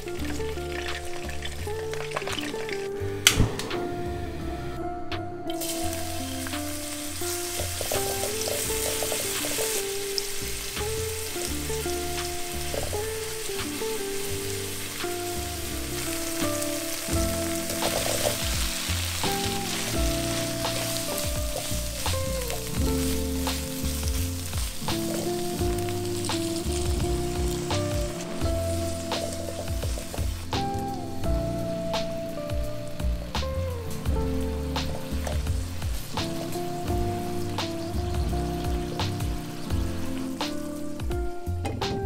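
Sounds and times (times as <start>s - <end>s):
oil sizzling in a wok: 0.0s - 3.3s, 5.5s - 42.0s
background music: 0.0s - 42.0s.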